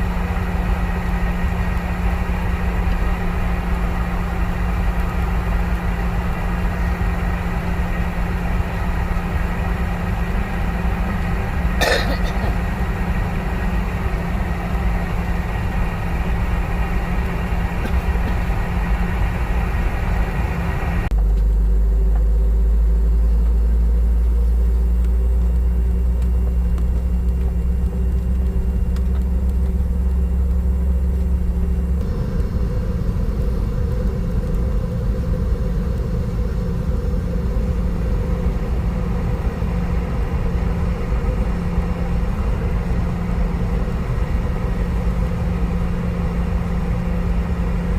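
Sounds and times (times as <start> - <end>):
airliner cabin engine hum: 0.0 - 47.9
heavy low rumble: 0.0 - 47.9.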